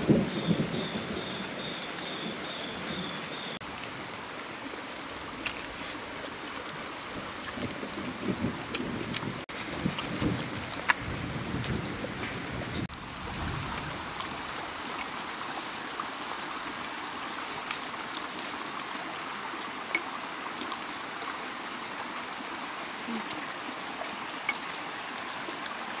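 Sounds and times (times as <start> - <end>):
creek water running over stones: 0.0 - 26.0.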